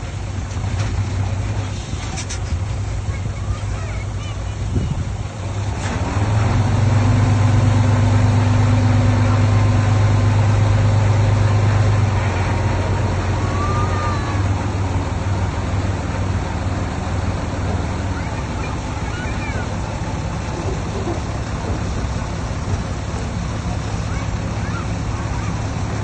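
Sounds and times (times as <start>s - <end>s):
diesel earthmoving machinery engine: 0.0s - 26.0s.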